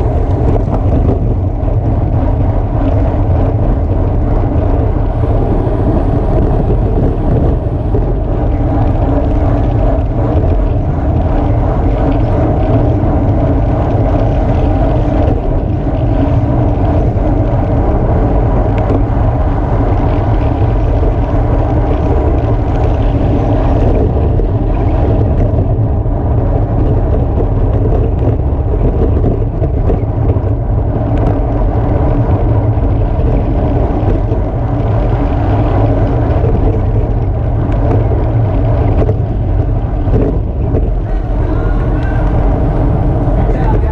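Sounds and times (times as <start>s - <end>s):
wind rush on microphone: 0.0s - 43.9s.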